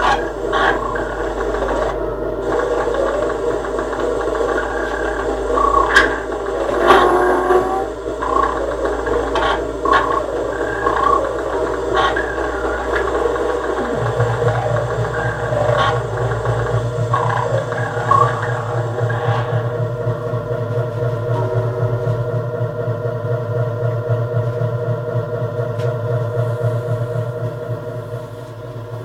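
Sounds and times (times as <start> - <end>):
deep steady hum: 0.0 - 29.0
electronic droning texture: 0.0 - 29.0.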